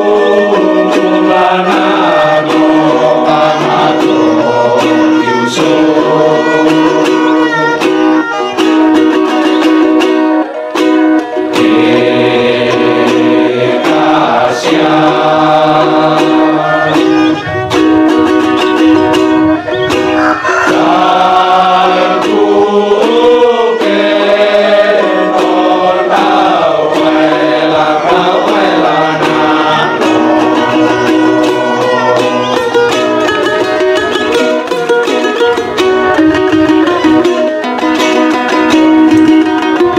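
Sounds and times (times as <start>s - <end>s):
men's choir singing a hymn: 0.0s - 8.2s, 11.2s - 35.2s
strummed string instrument: 0.0s - 39.9s.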